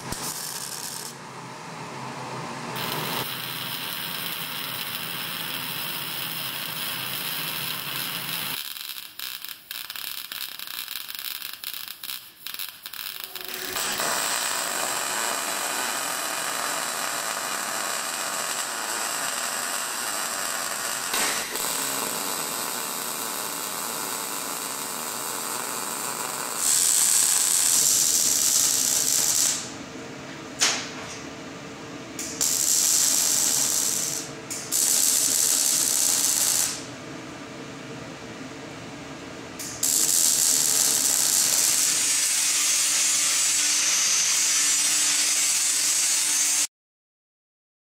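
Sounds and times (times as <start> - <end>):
welding arc crackling and hissing: 0.0 - 1.2, 2.8 - 29.8, 32.2 - 36.9, 39.6 - 46.7.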